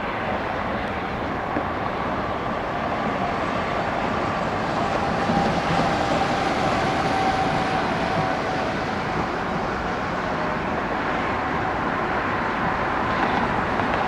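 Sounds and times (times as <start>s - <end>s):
thin jet engine whine: 0.0s - 14.0s.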